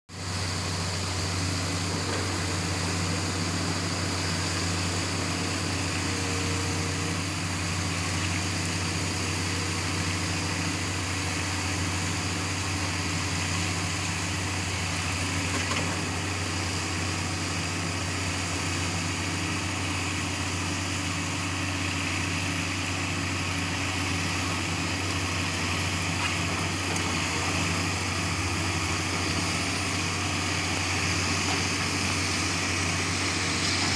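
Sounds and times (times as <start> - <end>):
drilling rig engine drone: 0.1 - 33.9.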